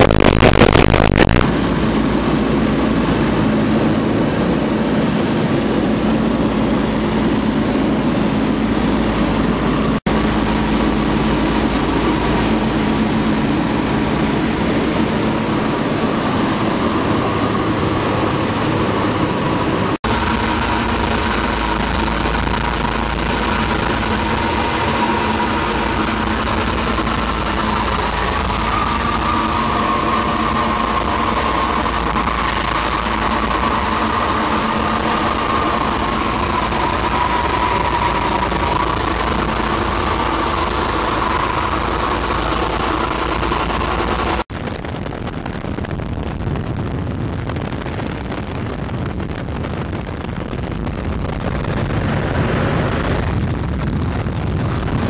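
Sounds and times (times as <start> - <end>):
aircraft engines droning: 0.0 - 55.0.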